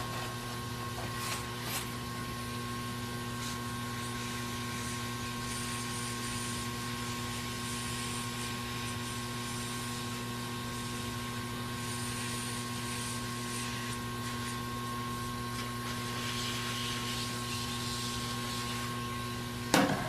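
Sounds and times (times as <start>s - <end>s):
electric fan motor humming: 0.0s - 20.0s.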